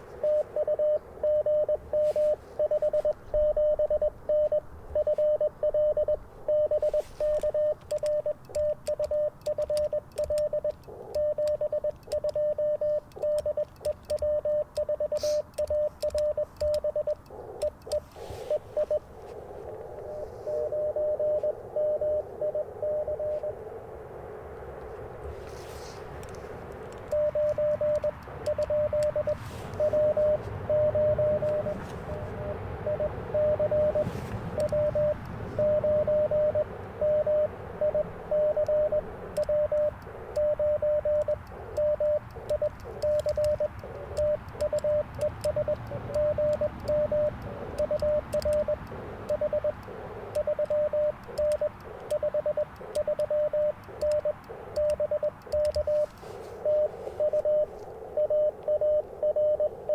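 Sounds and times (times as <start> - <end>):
morse code tone: 0.0 - 23.6, 25.2 - 59.9
radio band hiss: 0.0 - 59.9.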